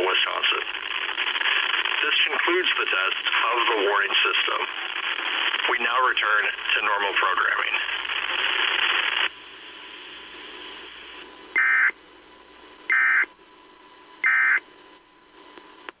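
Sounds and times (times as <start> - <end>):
radio static: 0.0 - 16.0.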